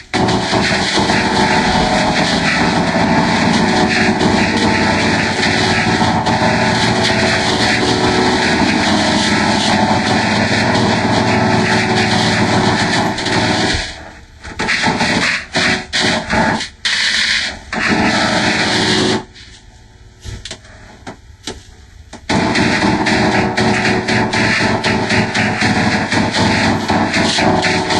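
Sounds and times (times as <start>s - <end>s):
distorted toy sounds noise: 0.0s - 19.6s, 22.2s - 27.9s.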